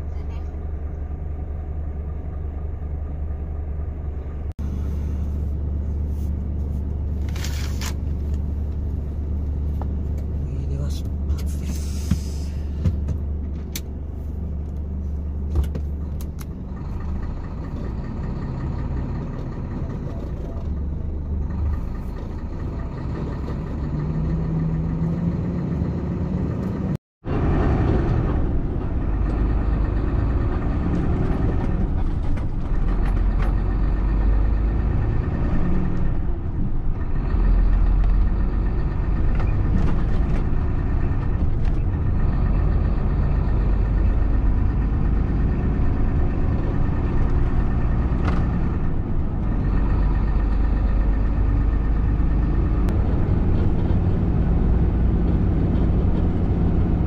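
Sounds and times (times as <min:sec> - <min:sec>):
diesel truck engine running: 0:00.0 - 0:57.0
road noise: 0:00.0 - 0:57.0.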